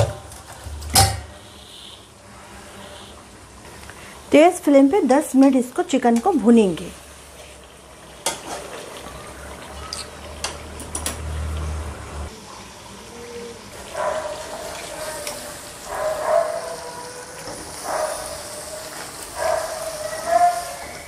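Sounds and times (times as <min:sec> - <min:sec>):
chicken sizzling in oil: 0:03.5 - 0:21.0.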